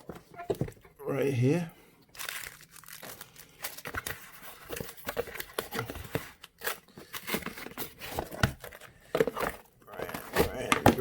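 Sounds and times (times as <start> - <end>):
packaging crinkling and rustling: 2.1 - 11.0.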